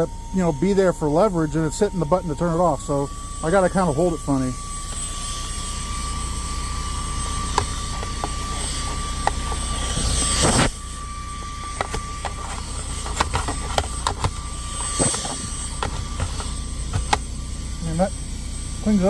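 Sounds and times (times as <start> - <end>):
handheld vacuum whining: 0.0 - 19.0.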